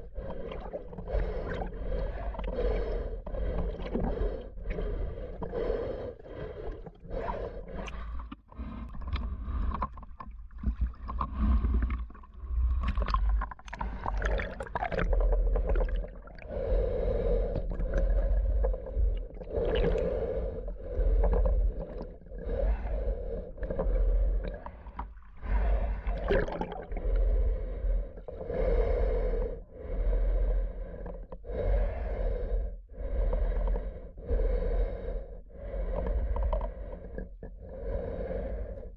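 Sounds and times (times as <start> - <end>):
muffled underwater swimming: 0.0 - 38.9.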